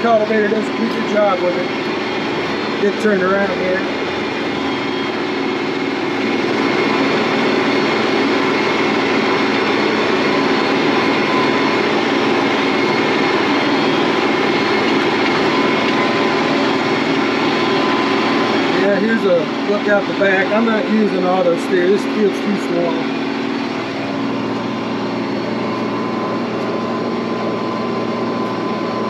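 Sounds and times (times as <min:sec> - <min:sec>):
faint steady whines: 0:00.0 - 0:29.0
tractor diesel engine running: 0:00.0 - 0:29.0.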